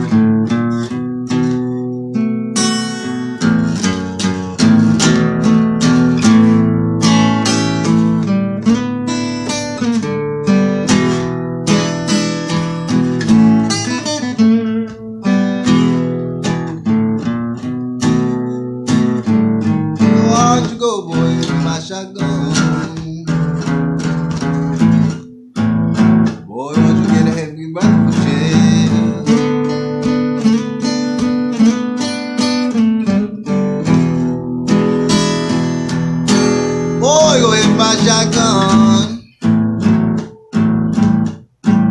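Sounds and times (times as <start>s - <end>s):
acoustic guitar blues: 0.0s - 41.9s.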